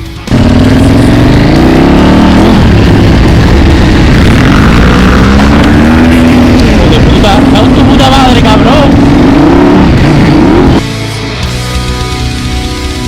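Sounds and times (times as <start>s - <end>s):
constant rush of noise: 0.0s - 10.9s
motorcycle engine revving: 0.0s - 10.9s.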